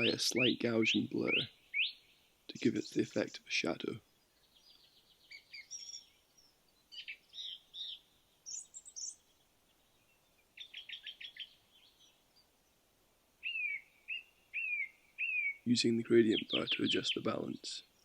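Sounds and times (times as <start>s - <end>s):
birds chirping and trilling: 0.0s - 12.8s, 13.4s - 18.0s.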